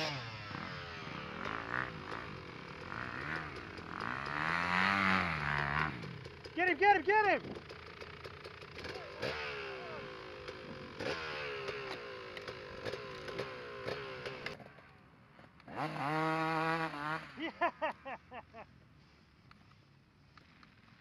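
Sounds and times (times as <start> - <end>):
motocross engines revving: 0.0 - 18.4.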